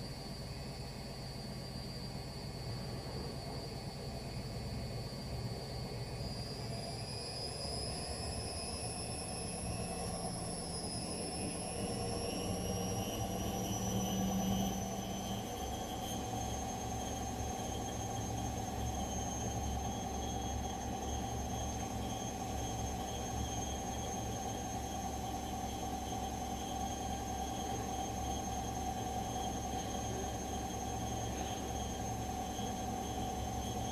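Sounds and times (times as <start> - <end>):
motor whine: 6.5 - 33.9.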